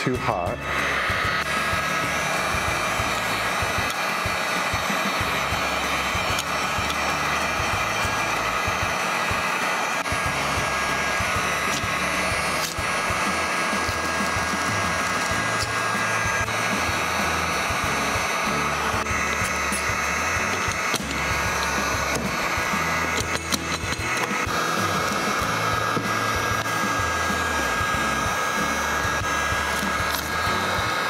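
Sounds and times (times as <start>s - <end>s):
background music: 0.0s - 31.0s
heat gun fan blowing: 0.0s - 31.0s.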